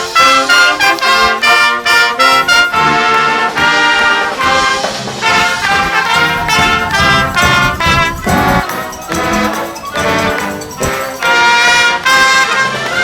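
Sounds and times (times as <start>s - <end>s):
brass instruments playing: 0.0s - 13.0s
drums: 0.0s - 13.0s.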